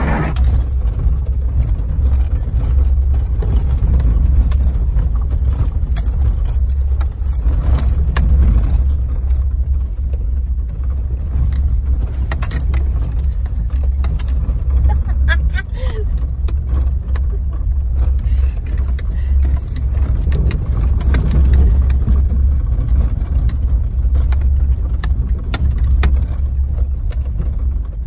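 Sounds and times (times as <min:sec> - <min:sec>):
vehicle engine rumbling: 0:00.0 - 0:28.0
vehicle rattling over rocks: 0:00.0 - 0:28.0.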